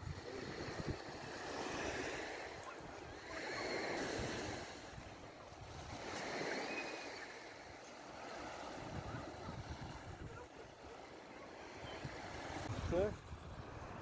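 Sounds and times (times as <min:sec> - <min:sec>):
wind rumbling on microphone: 0:00.0 - 0:06.5, 0:07.7 - 0:10.5, 0:11.8 - 0:14.0
sea waves washing onto beach: 0:00.0 - 0:14.0.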